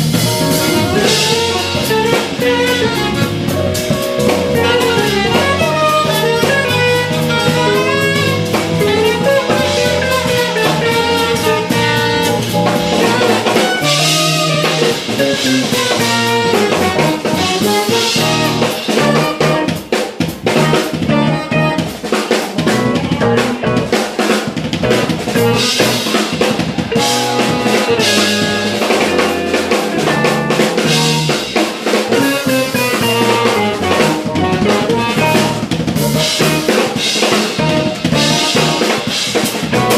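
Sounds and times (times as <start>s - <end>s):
saxophone melody: 0.0s - 24.0s, 24.8s - 26.2s, 26.9s - 39.9s
drum kit snare and rimshots: 0.0s - 39.9s
jazz fusion band playing: 0.0s - 39.9s.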